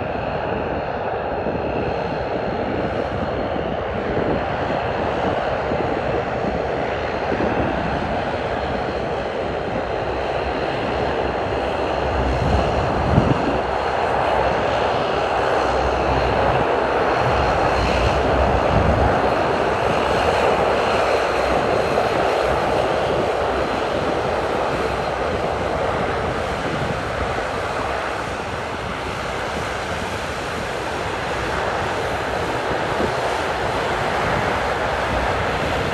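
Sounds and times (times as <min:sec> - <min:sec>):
turboprop engines droning: 0:00.0 - 0:35.9.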